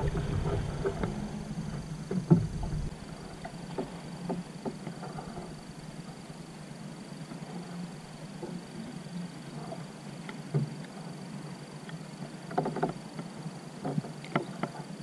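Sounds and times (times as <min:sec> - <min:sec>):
low rumble of water and wind: 0:00.0 - 0:15.0.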